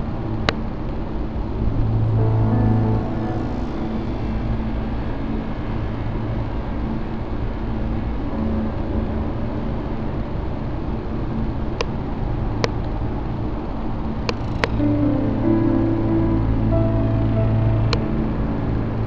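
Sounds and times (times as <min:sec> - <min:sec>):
dark ambient drone music: 0:00.0 - 0:19.0.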